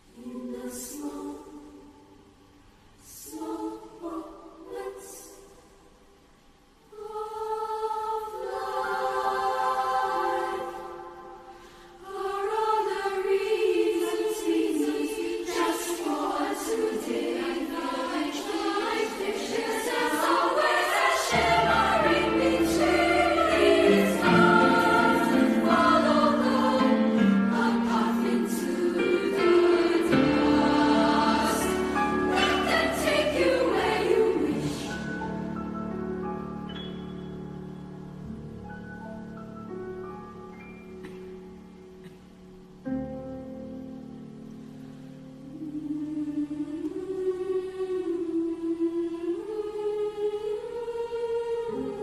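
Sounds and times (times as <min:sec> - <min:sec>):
choir singing: 0:00.0 - 0:02.2, 0:03.0 - 0:06.0, 0:06.9 - 0:36.9, 0:45.4 - 0:52.0.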